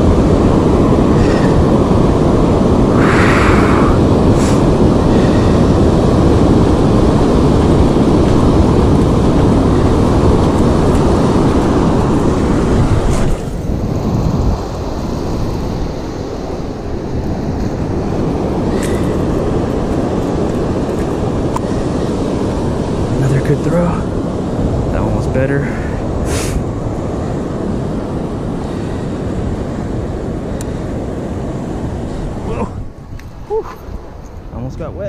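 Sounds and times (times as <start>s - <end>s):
heavy surf: 0.0s - 35.0s
wind buffeting microphone: 0.0s - 35.0s.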